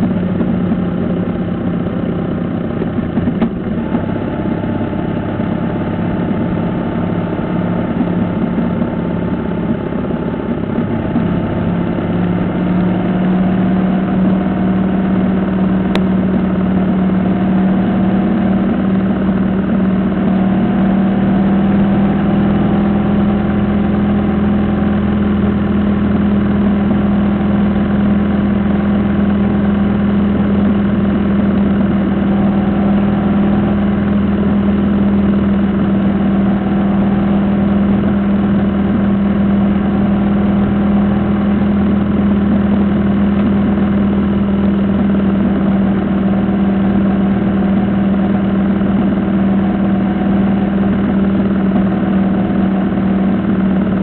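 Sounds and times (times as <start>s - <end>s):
motorcycle engine droning: 0.0s - 54.0s
road and wind noise: 0.0s - 54.0s.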